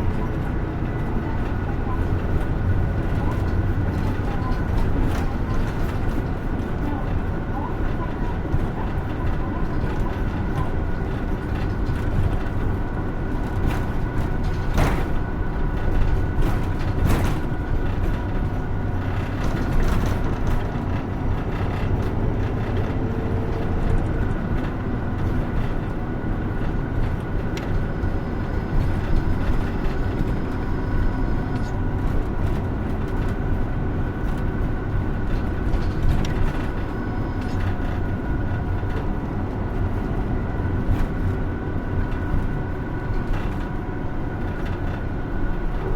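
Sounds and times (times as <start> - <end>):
bus engine and road drone: 0.0 - 45.9.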